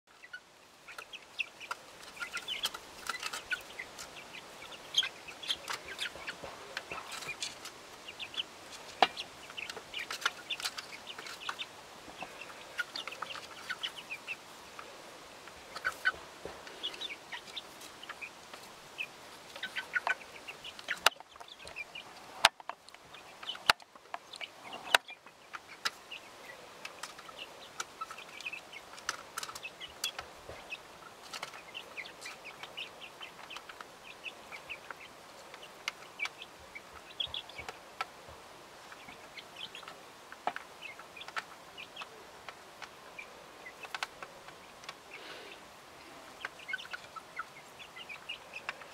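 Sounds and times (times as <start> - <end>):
chickens clucking softly: 0.1 - 48.9.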